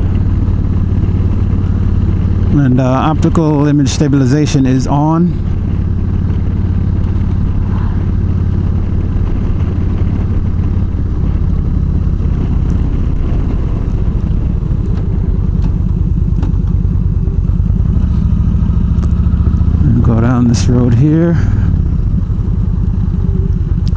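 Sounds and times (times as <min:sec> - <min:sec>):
motorcycle engine cruising: 0:00.0 - 0:23.9.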